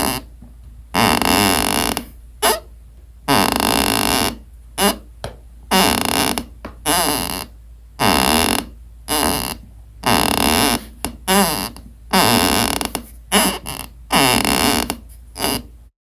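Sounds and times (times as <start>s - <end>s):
wooden floorboards creaking: 0.0s - 15.7s.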